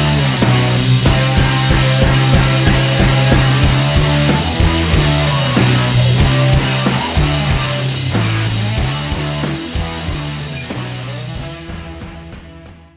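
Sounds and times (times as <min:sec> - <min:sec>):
rock music with guitar and drums: 0:00.0 - 0:12.9.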